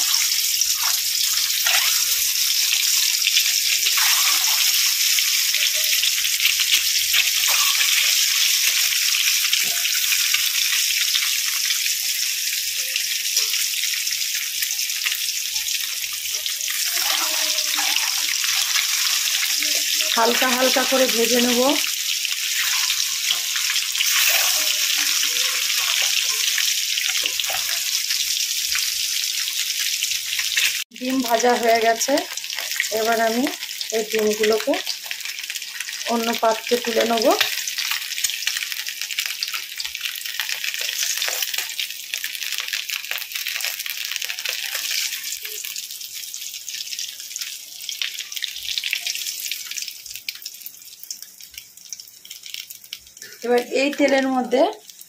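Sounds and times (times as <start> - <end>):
eggs sizzling in hot oil: 0.0 - 55.0.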